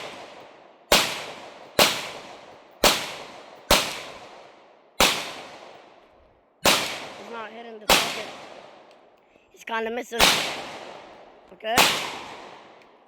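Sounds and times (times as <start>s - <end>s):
gunshots: 0.0s - 6.0s, 6.6s - 8.9s, 10.2s - 12.8s.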